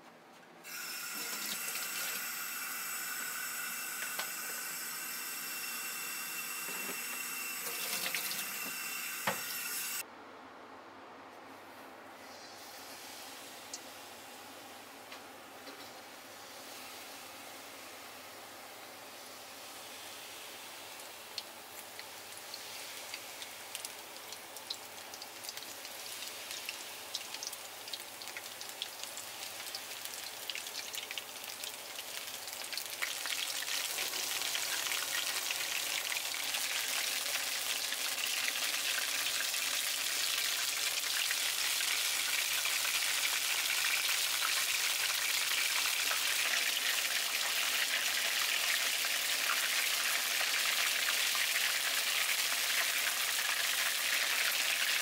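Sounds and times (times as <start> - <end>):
batter deep-frying in oil: 0.6 - 10.0, 15.7 - 55.0.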